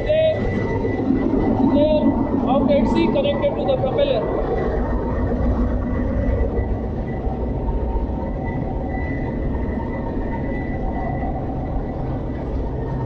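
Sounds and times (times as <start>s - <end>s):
engine room machinery rumble: 0.0s - 13.0s
thin high whine: 0.0s - 13.0s.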